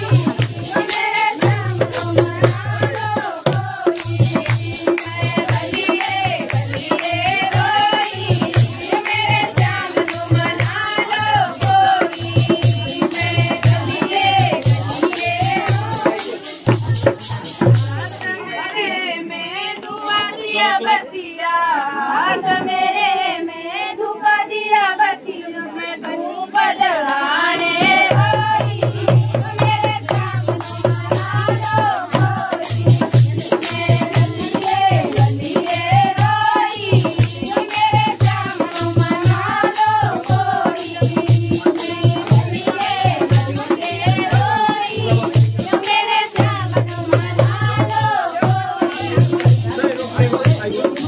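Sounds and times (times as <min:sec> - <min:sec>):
drum beat: 0:00.0 - 0:18.4, 0:27.8 - 0:51.0
jingling percussion: 0:00.0 - 0:18.6, 0:27.8 - 0:51.0
women singing folk song: 0:00.0 - 0:50.4.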